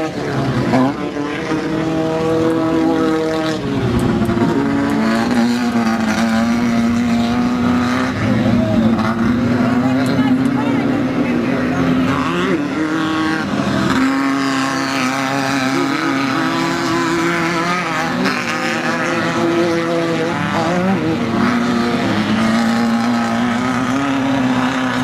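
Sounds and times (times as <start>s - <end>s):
buggy engines revving high: 0.0s - 25.0s.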